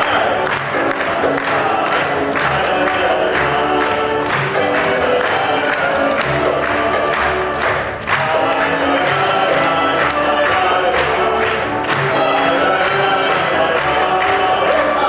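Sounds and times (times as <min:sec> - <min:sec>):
group of voices singing: 0:00.0 - 0:15.0
music with steady beat: 0:00.0 - 0:15.0.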